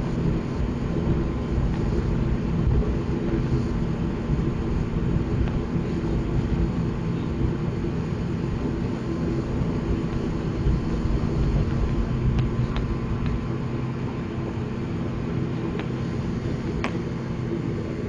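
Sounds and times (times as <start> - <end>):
turboprop engine drone: 0.0 - 18.0.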